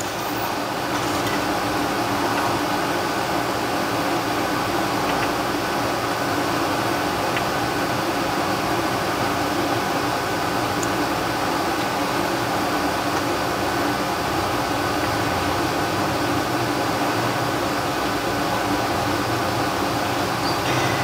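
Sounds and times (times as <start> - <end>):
fan running: 0.0 - 21.0.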